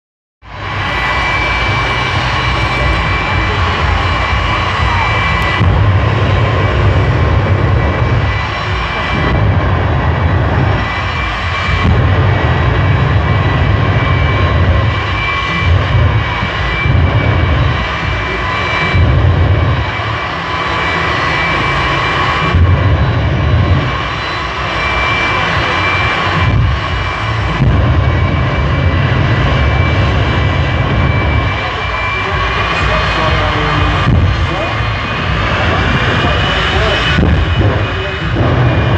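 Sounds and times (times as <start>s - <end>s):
jet turbine whine: 0.4s - 38.9s
low rumble: 0.4s - 38.9s.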